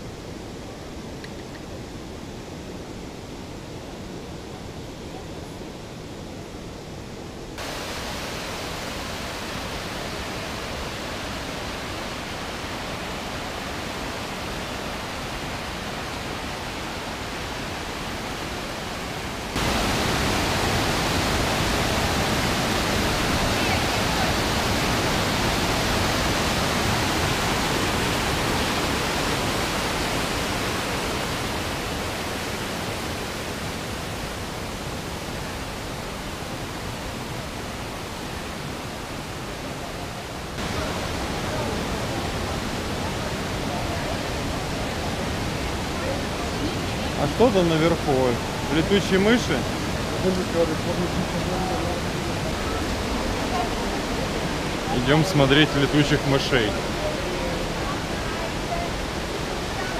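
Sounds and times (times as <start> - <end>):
waterfall rushing: 6.9 - 59.9.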